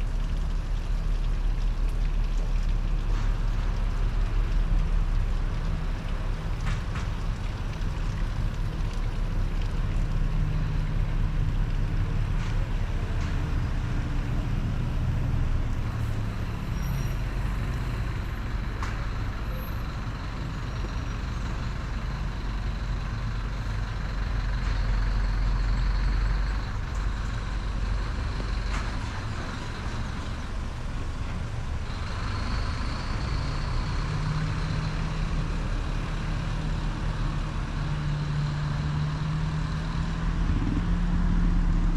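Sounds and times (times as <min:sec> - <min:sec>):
large vehicles passing: 0:00.0 - 0:41.9.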